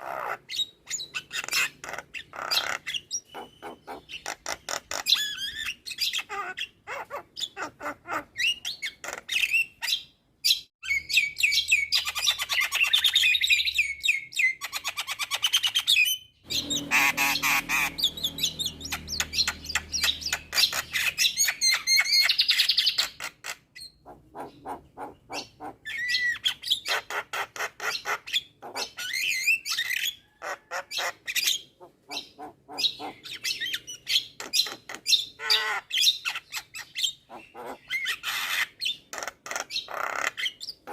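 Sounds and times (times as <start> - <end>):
bird harsh chattering and squawks: 0.0 - 40.9.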